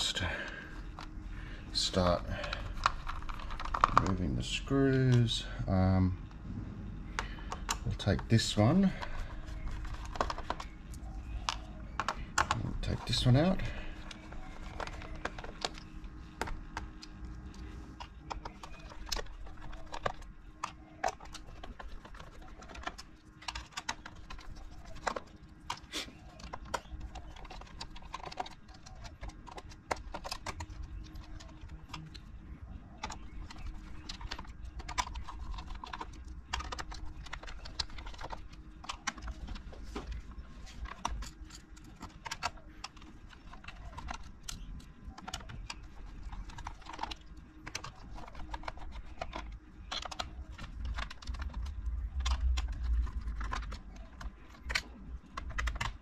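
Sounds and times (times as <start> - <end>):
hands handling keyboard: 0.1 - 5.4, 7.1 - 56.0.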